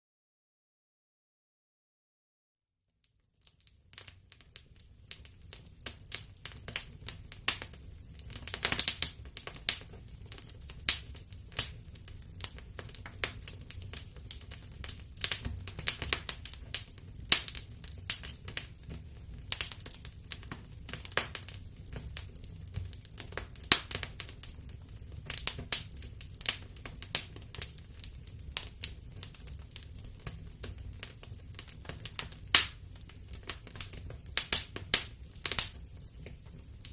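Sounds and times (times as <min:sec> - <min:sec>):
wood fire crackling and popping: 0:03.1 - 0:36.9
low rumble of flames: 0:03.9 - 0:36.9.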